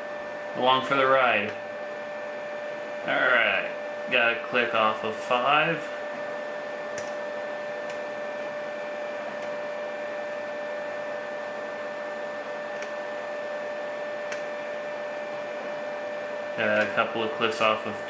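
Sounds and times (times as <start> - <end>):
three d printer humming and whining: 0.0 - 18.0.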